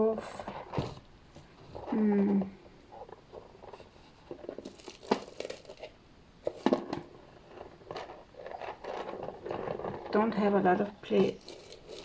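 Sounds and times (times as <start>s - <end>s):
rustling and crinkling: 0.0s - 12.0s.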